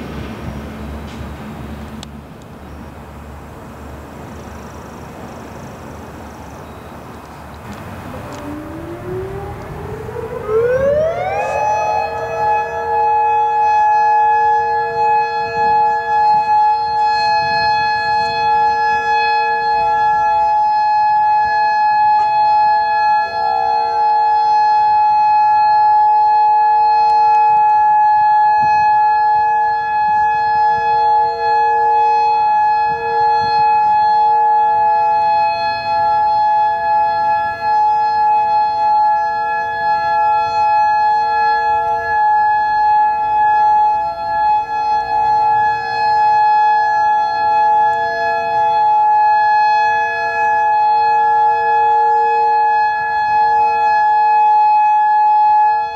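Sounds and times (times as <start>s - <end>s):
electronic warning siren: 7.7s - 55.9s.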